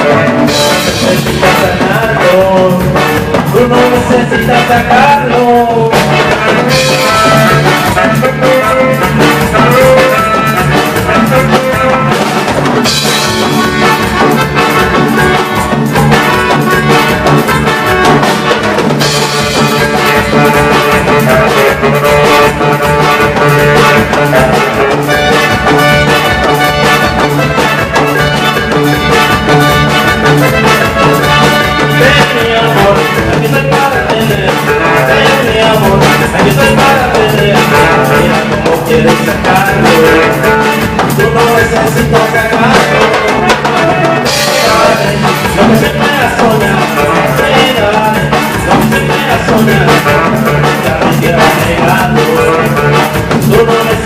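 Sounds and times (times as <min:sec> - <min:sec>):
brass section playing: 0:00.0 - 0:54.0
drum kit dance beat: 0:00.0 - 0:54.0.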